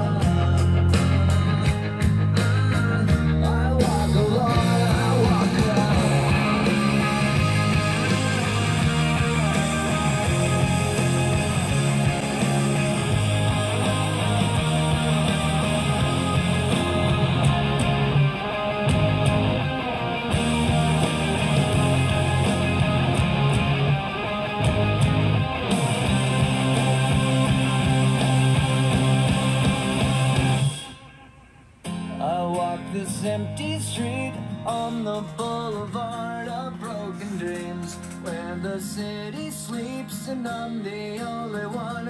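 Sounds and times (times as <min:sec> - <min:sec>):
rock song over speakers: 0:00.0 - 0:42.0.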